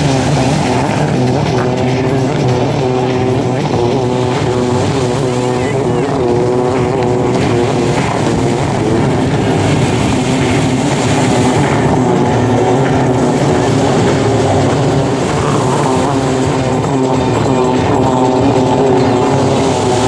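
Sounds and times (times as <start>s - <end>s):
jet-ski engines running hard: 0.0s - 20.0s.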